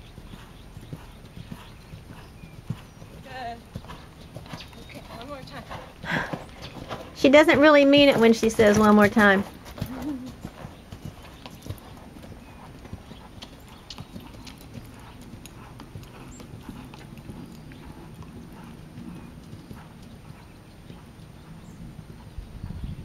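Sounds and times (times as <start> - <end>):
horse hoofbeats on sand: 0.0 - 22.9.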